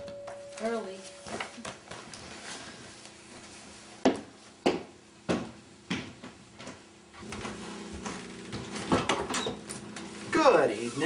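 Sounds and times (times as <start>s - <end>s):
footsteps on hard floor: 0.0s - 9.1s.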